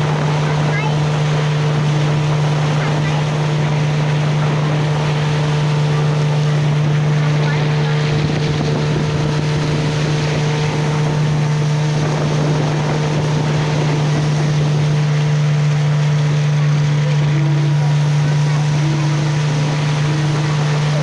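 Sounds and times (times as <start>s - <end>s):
motorboat engine running: 0.0s - 21.0s
water spray rushing along hull: 0.0s - 21.0s.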